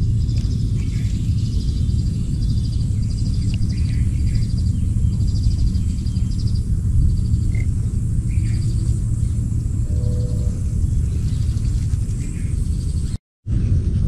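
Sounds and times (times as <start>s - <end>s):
high-pitched chirping trills: 0.0s - 13.2s
lower chirps: 0.0s - 13.9s
steady low rumble: 0.0s - 14.0s.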